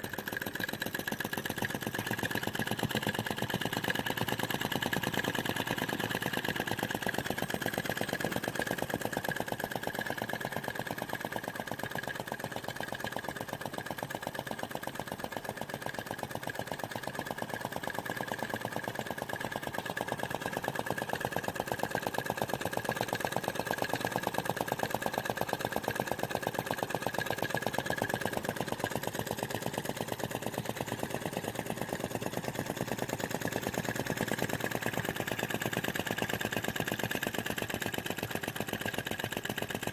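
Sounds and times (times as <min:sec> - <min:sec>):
model engine running rapid beat: 0:00.0 - 0:39.9.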